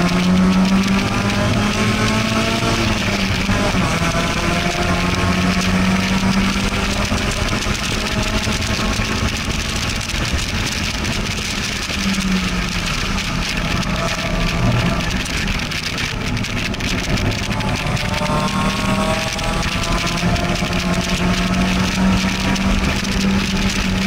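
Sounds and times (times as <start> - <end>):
car engine pulling hard: 0.0 - 24.0.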